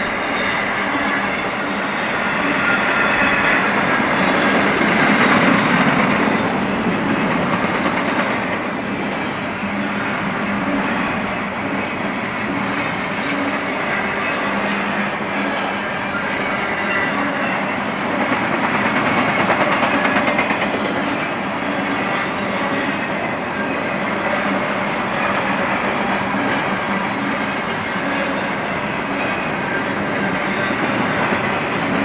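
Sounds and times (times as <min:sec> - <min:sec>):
freight train wheels on rails: 0:00.0 - 0:32.0.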